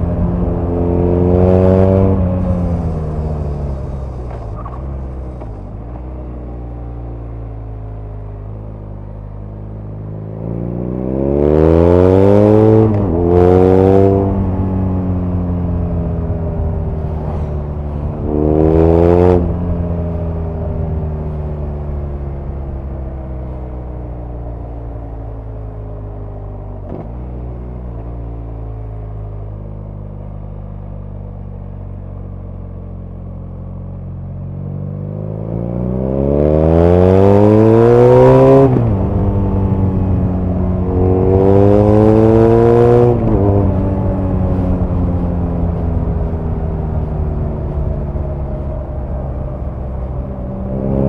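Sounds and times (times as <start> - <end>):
motorcycle engine revving: 0.0 - 23.8, 33.2 - 51.0.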